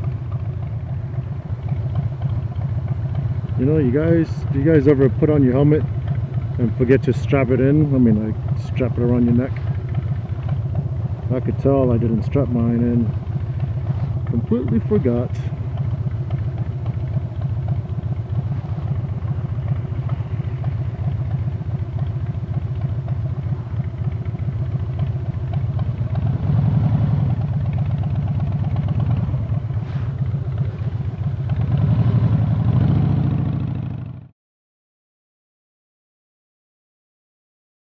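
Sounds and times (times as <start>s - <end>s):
motorcycle engine idling: 0.0s - 34.3s.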